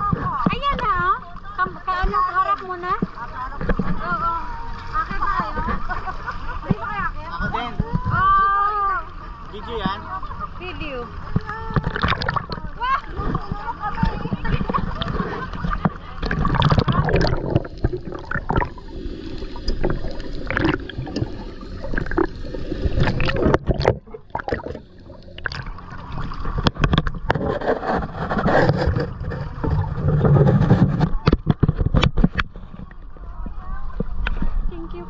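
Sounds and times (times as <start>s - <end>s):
muffled underwater rushing: 0.0s - 35.0s
water sloshing and splashing: 0.0s - 35.0s.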